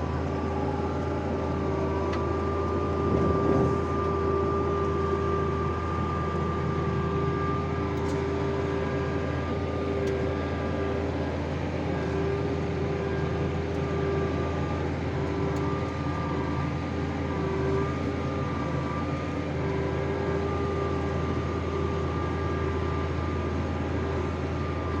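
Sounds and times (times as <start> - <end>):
steady whine: 0.0 - 25.0
tractor engine running: 0.0 - 25.0.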